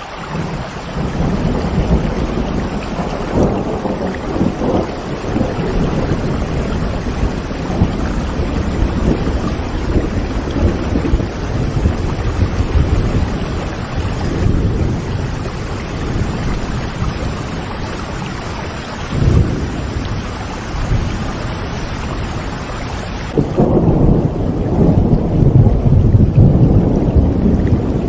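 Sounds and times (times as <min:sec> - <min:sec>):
steady rain falling: 0:00.0 - 0:28.0
rolling thunder: 0:00.3 - 0:28.0.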